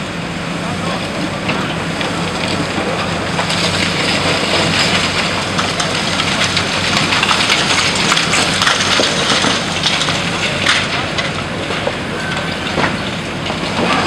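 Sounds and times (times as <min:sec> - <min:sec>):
diesel engine humming: 0:00.0 - 0:14.0
concrete debris crumbling and falling: 0:02.0 - 0:14.0.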